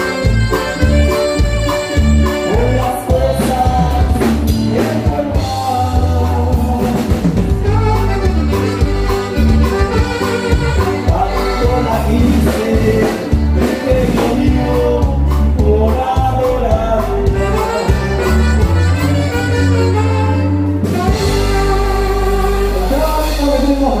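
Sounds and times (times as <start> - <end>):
drum beat: 0.0 - 19.3
person singing: 0.0 - 20.4
band playing live dance music: 0.0 - 24.0.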